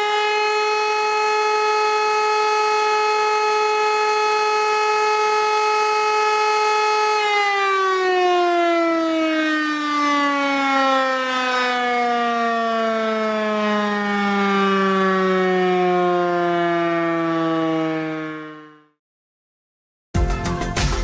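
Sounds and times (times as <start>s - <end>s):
warning siren winding down: 0.0s - 19.0s.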